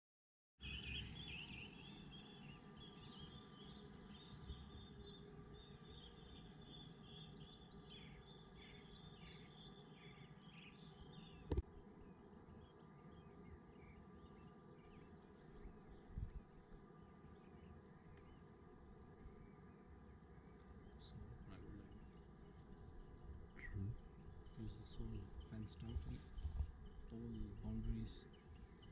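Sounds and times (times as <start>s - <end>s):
faint birdsong: 0.6s - 28.9s
low steady outdoor rumble: 0.6s - 28.9s.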